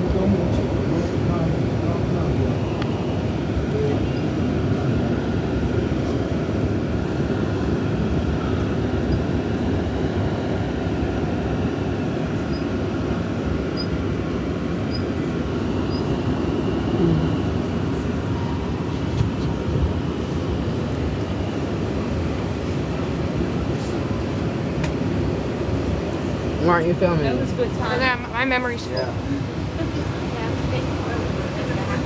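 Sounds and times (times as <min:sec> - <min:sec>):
light-rail car rumble: 0:00.0 - 0:32.0.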